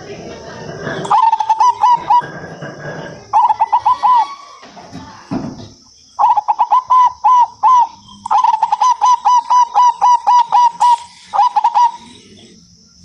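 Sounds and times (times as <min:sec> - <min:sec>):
dove cooing: 0:00.0 - 0:04.6, 0:06.2 - 0:12.6.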